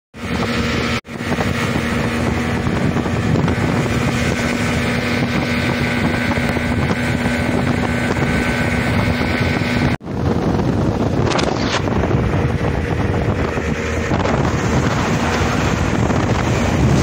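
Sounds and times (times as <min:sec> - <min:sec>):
outboard motors droning: 0:00.2 - 0:17.0
wind on microphone: 0:00.2 - 0:17.0.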